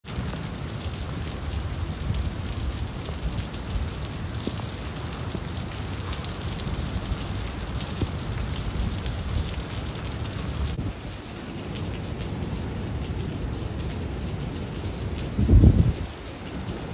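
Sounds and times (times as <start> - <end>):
heavy rain streaming off roof: 0.0 - 16.9.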